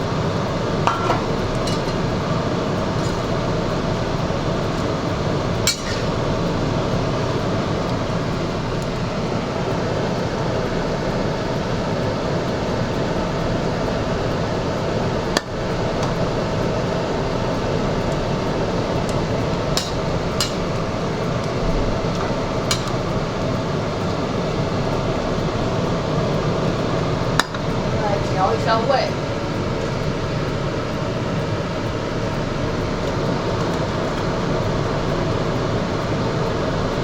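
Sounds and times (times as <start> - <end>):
covered pot cooking rushing noise: 0.0 - 37.0.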